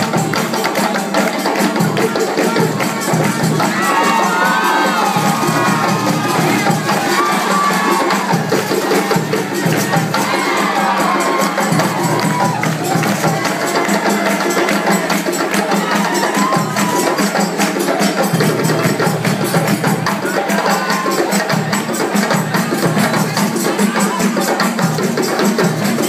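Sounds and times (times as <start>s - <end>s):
djembe hand drums playing: 0.0s - 26.0s.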